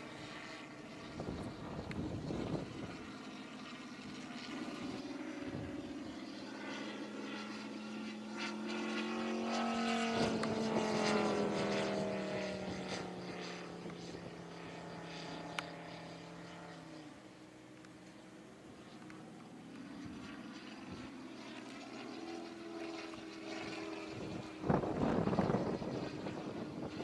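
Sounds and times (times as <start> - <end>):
model plane engine drone: 0.0 - 27.0.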